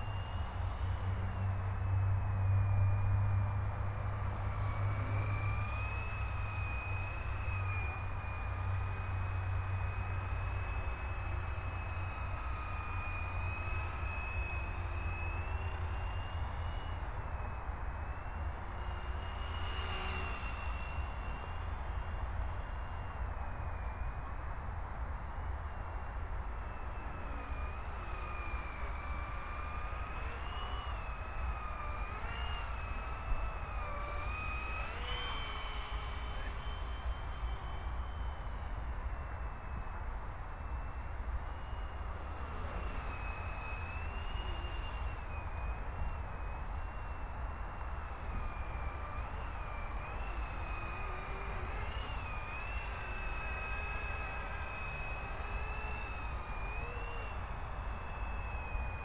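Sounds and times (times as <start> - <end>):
rc helicopter whine: 0.0 - 59.0.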